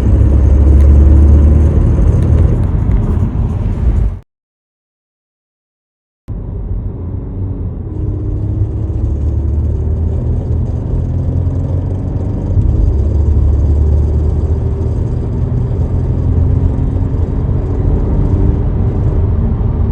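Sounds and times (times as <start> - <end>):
car engine accelerating: 0.0 - 4.2, 6.3 - 19.9.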